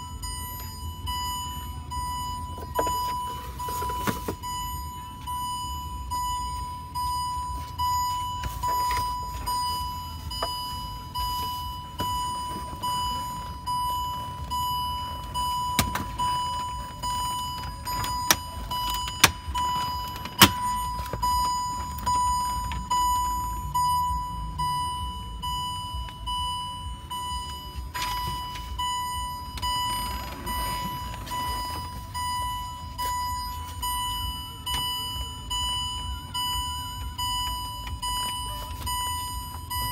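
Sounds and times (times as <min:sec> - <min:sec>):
car warning chime: 0:00.0 - 0:39.9.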